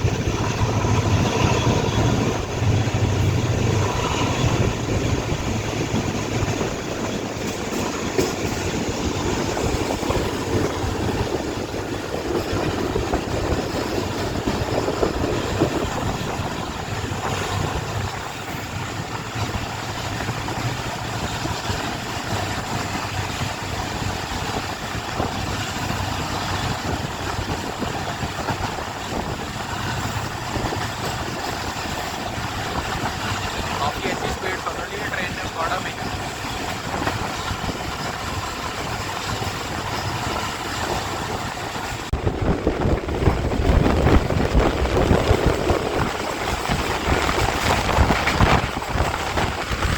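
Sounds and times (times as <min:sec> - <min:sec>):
train rumbling at speed: 0:00.0 - 0:49.9.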